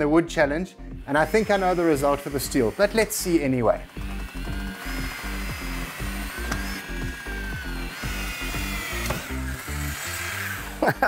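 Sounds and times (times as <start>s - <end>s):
background music with steady beat: 0.0s - 11.0s
drills boring into steel: 1.0s - 11.0s.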